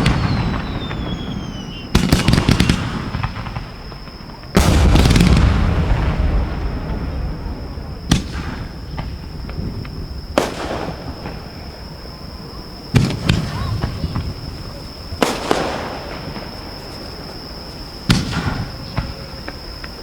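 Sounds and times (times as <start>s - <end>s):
fireworks booming: 0.0s - 20.0s
sharp fireworks bangs: 0.0s - 20.0s.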